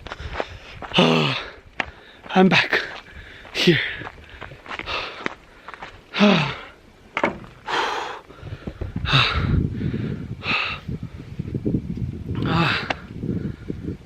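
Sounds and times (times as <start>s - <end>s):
man breathing hard: 0.0s - 6.8s, 7.6s - 11.4s, 12.4s - 14.0s.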